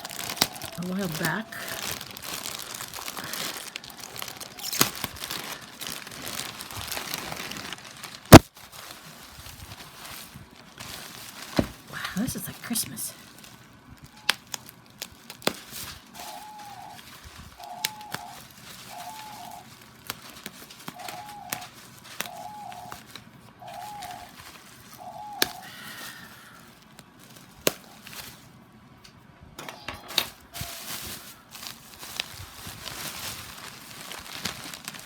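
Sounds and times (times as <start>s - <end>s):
plastic and paper crinkling: 0.0s - 28.6s, 30.0s - 35.0s.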